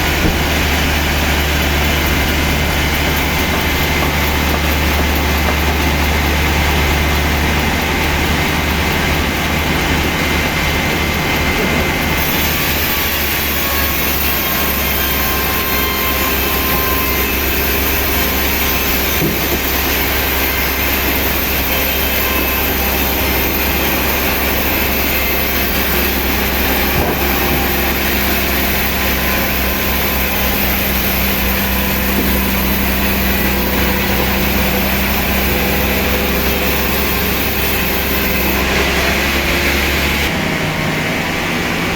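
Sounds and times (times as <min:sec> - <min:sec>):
heavy machinery humming: 0:00.0 - 0:41.9.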